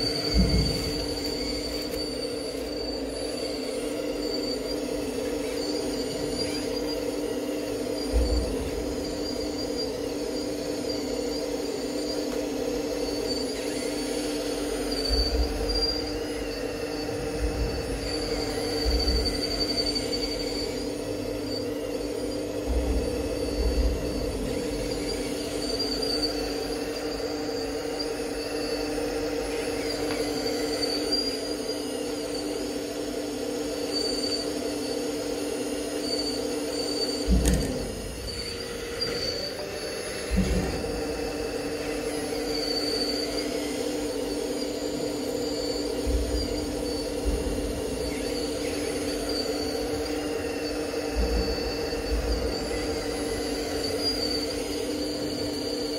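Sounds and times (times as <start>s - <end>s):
high whine: 0.0s - 55.9s
model excavator motor humming: 0.0s - 55.9s.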